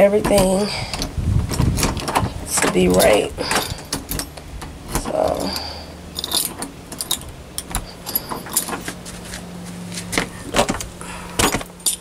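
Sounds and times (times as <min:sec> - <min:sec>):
light jingling rattles: 0:00.0 - 0:12.0
steady low hum: 0:00.0 - 0:12.0.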